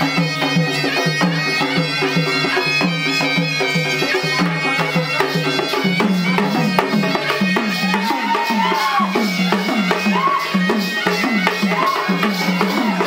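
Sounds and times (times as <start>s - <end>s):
drums keeping a steady beat: 0.0s - 13.0s
repeating folk melody: 0.0s - 13.0s.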